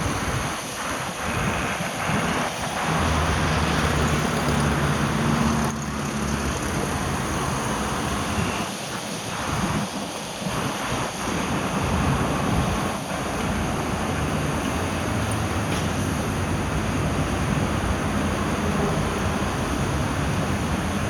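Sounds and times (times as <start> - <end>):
car driving on wet road: 0.0 - 21.0.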